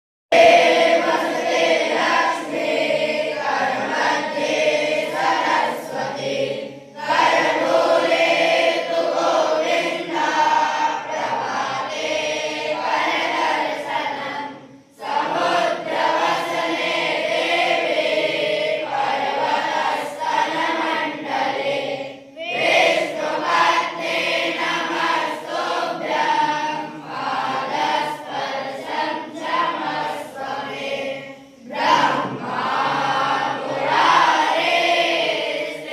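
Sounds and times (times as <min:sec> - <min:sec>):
children singing in unison: 0:00.3 - 0:35.9.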